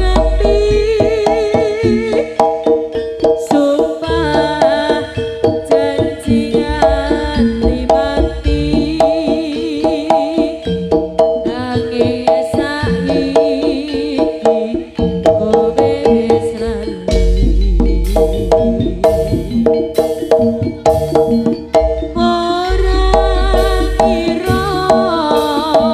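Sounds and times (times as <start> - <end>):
hand drums playing busy strokes: 0.0 - 25.9
ringing gong and metallophone tones: 0.0 - 25.9
wavering high melody line: 0.0 - 25.9.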